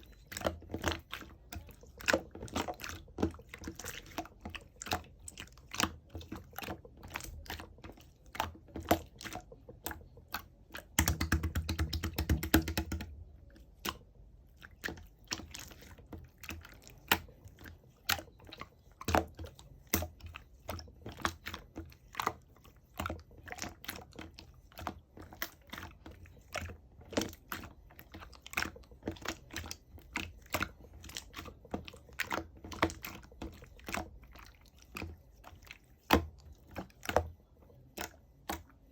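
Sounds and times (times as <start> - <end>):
hands squishing slime: 0.0 - 38.9.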